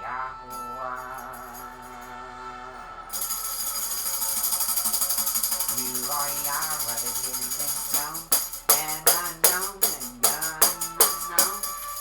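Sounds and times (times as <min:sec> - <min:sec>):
fast rhythmic jingling: 0:00.5 - 0:02.1, 0:03.1 - 0:12.0.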